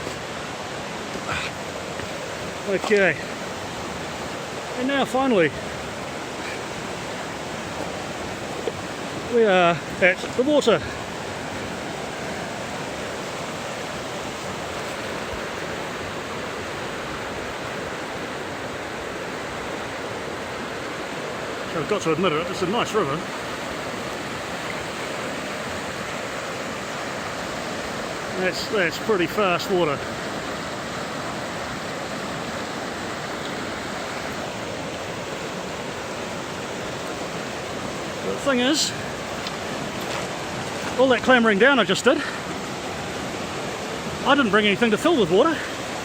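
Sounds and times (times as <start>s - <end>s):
river rushing: 0.0s - 46.0s.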